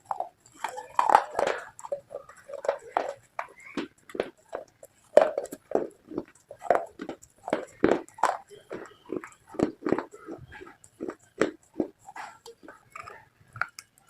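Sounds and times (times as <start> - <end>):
crunchy biting and chewing: 0.0 - 14.0.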